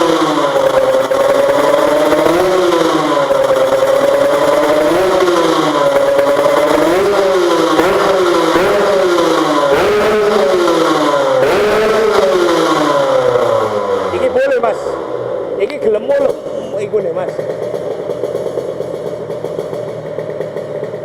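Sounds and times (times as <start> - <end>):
engine revving through racing exhaust: 0.0 - 21.0.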